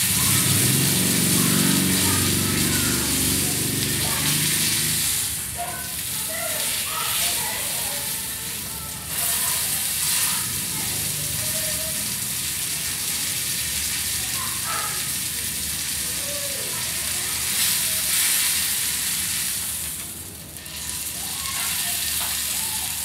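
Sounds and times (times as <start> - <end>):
meat sizzling in oil: 0.0 - 23.0.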